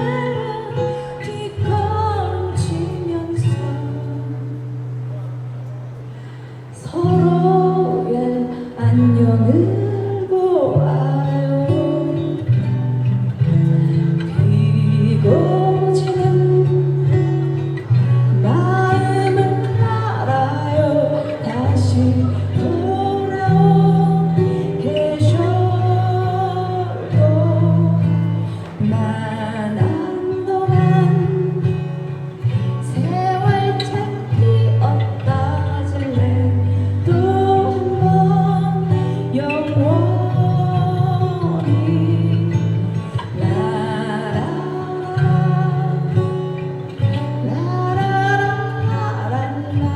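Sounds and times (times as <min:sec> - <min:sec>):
plucked guitar: 0:00.0 - 0:49.9.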